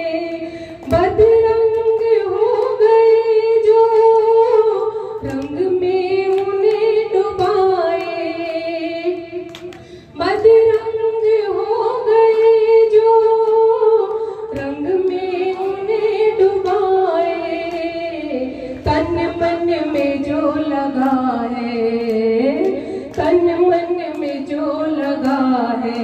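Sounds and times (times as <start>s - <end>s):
woman singing devotional song: 0.0s - 26.0s.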